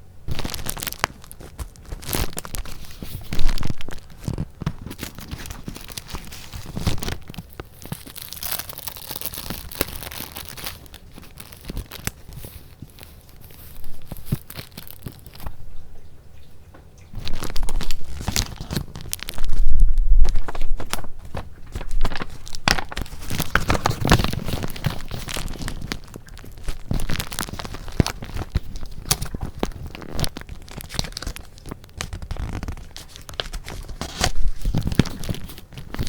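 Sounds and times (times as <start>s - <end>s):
paper rustling and crinkling: 0.3s - 15.7s, 17.1s - 36.0s.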